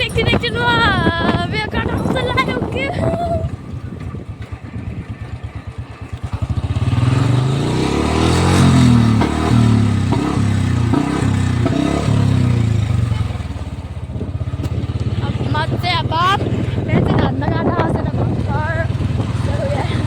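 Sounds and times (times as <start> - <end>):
exhaust pops: 0.0 - 20.0
motorcycle engine thumping: 0.0 - 20.0.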